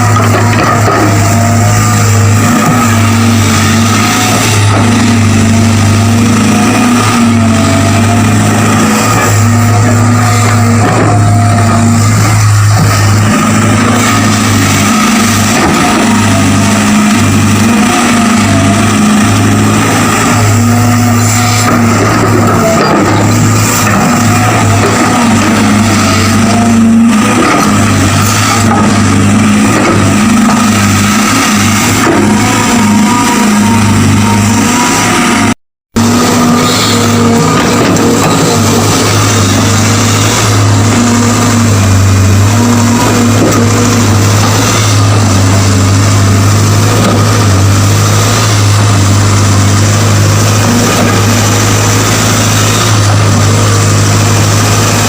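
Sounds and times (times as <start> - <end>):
excavator diesel engine humming: 0.0 - 55.0.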